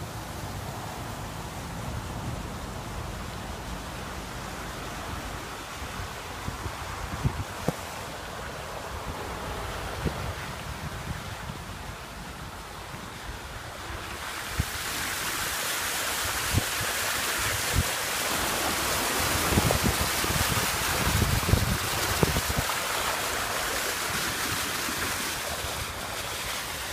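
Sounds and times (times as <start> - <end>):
car tyres splashing through water: 0.0 - 26.9
wind buffeting microphone: 2.0 - 15.5, 16.2 - 26.9.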